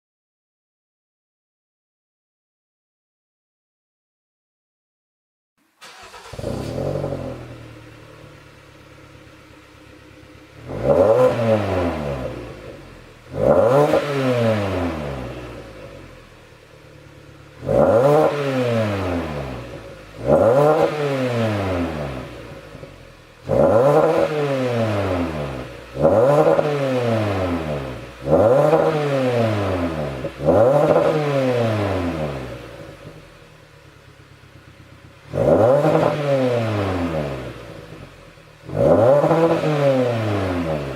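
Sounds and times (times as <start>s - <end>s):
car engine revving: 5.8s - 40.9s.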